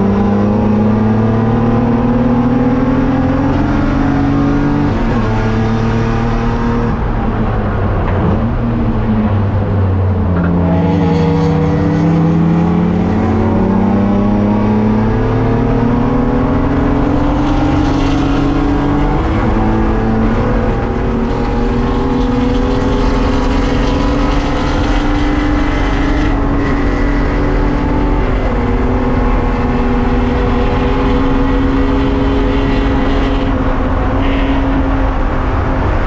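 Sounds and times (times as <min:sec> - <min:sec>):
race car engine running hard: 0:00.0 - 0:36.0
road and wind noise: 0:00.0 - 0:36.0.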